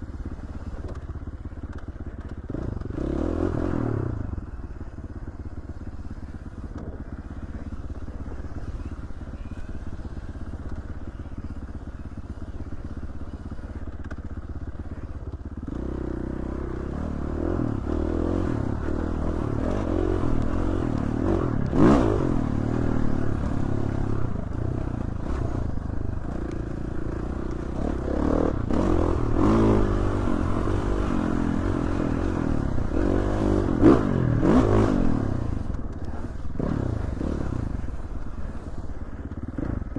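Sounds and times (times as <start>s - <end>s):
dirt bike engine revving: 2.5s - 39.9s.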